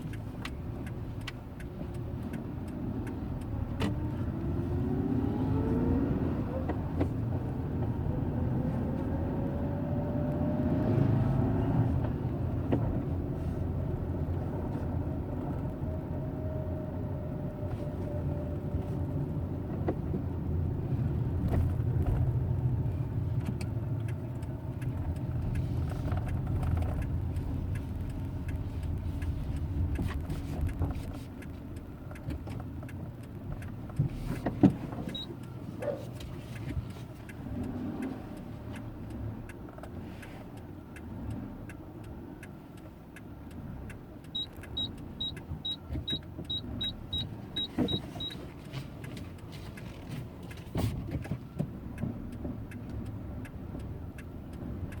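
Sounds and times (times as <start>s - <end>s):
car engine low rumble: 0.0s - 55.0s.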